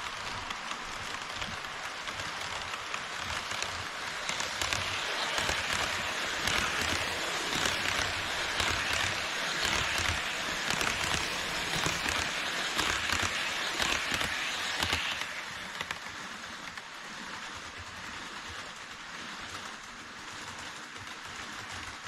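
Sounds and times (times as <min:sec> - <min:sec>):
model train wheels rolling on rail: 0:00.0 - 0:22.0.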